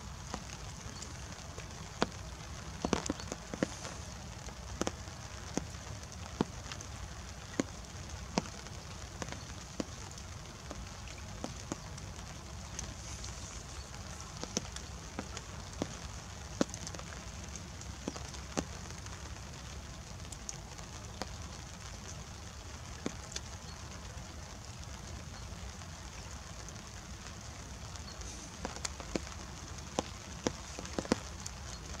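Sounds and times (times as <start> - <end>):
raindrops tapping: 0.0 - 32.0
steady hiss: 0.0 - 32.0.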